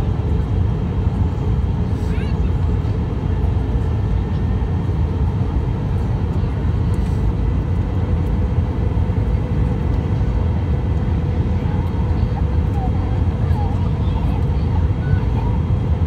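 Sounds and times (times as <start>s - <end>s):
jet engine and airflow rumble: 0.0s - 16.0s.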